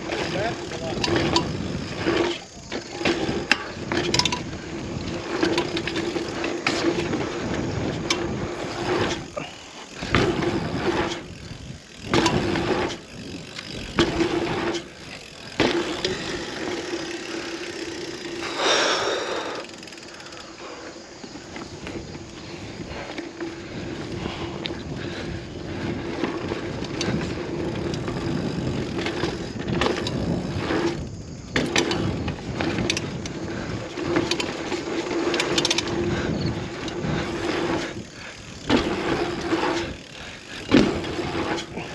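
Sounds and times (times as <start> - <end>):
bicycle clanks and chain slaps: 0.0 - 41.9
bicycle tyres rolling on dirt: 0.0 - 41.9
freewheel hub buzz: 0.0 - 41.9.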